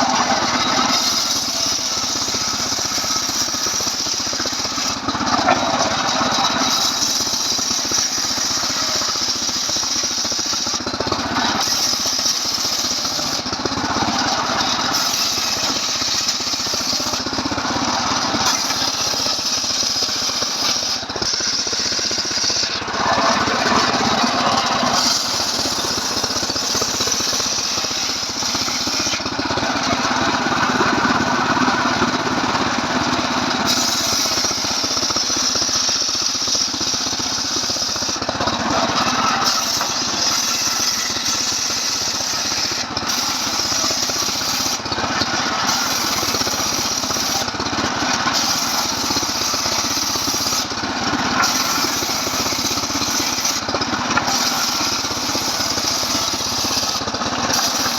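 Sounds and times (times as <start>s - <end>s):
chainsaw cutting a log: 0.0s - 57.9s.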